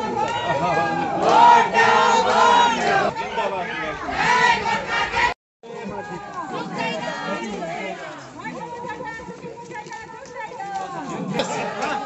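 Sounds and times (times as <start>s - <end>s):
crowd shouting: 0.0s - 8.9s, 10.7s - 12.0s.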